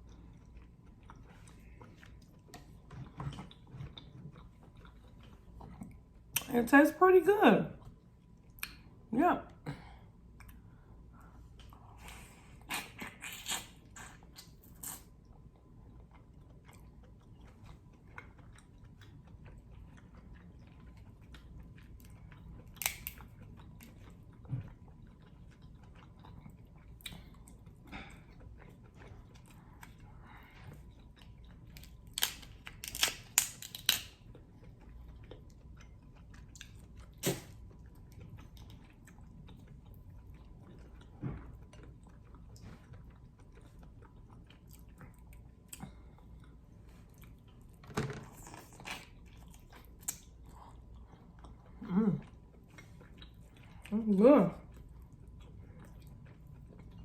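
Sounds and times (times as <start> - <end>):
chewing and mouth smacks: 0.0 - 6.5, 7.8 - 9.1, 10.3 - 54.0, 54.6 - 57.0.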